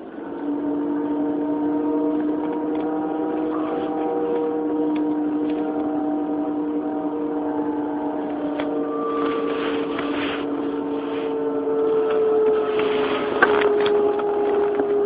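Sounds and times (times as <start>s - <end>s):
electric train motor hum: 0.0s - 15.0s
wheel and rail noise: 0.0s - 15.0s.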